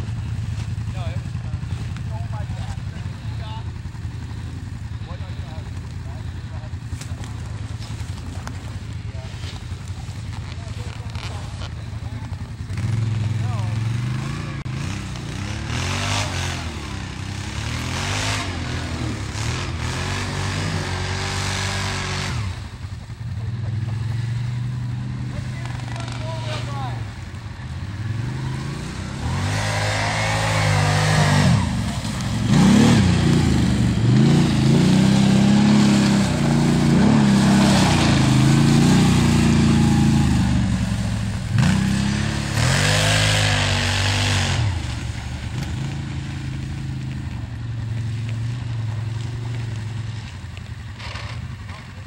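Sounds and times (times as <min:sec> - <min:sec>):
quad engine revving: 0:00.0 - 0:52.0.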